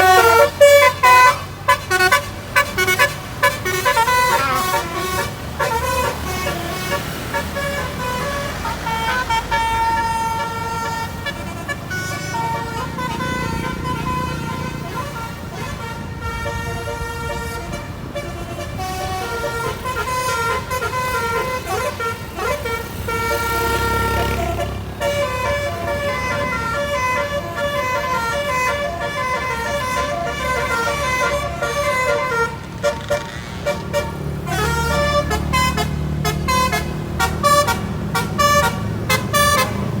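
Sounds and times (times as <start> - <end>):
bus engine running: 0.0 - 40.0
musical air horn playing a tune: 0.0 - 40.0.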